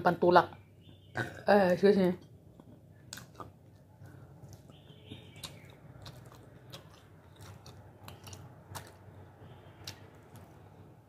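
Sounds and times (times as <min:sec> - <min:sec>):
chewing food: 0:02.1 - 0:11.0.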